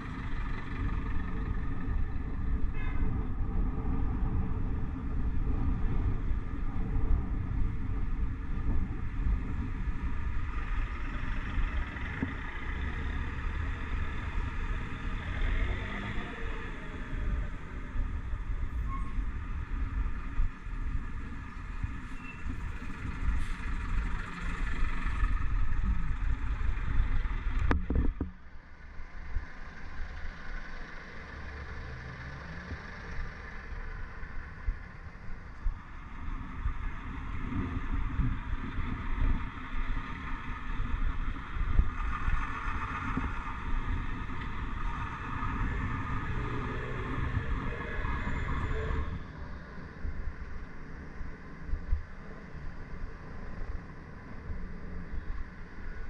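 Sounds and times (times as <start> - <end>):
city traffic: 0.0 - 56.0.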